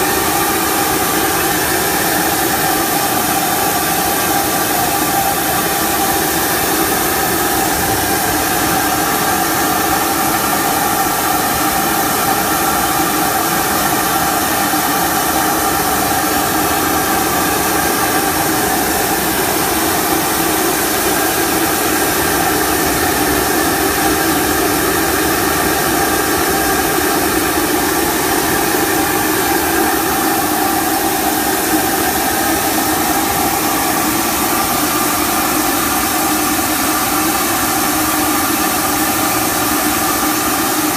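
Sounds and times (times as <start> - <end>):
industrial machine hissing and humming: 0.0 - 40.9.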